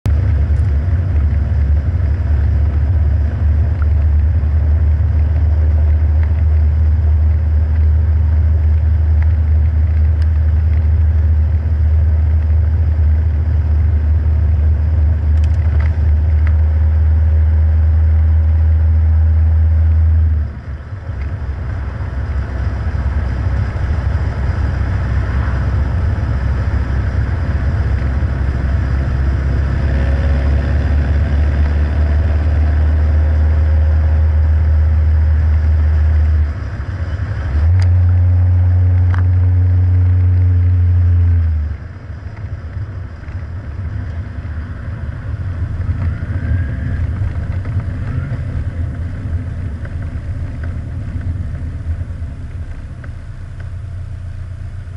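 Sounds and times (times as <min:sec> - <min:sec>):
car engine drone: 0:00.0 - 0:54.9.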